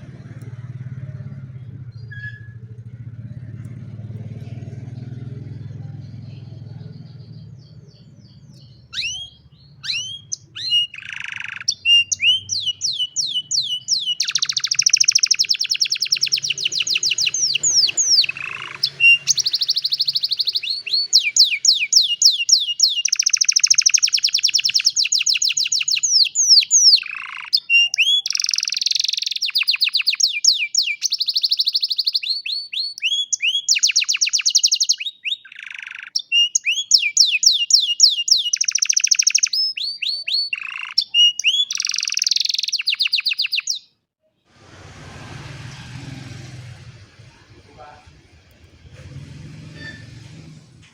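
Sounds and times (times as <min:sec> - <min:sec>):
canary singing trills: 0:00.0 - 0:44.0.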